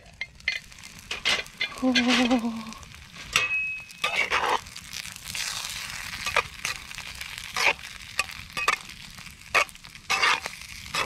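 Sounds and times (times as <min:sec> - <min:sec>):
campfire pops and crackles: 0:00.0 - 0:11.0
stew sizzling and bubbling in a pot: 0:00.0 - 0:11.0.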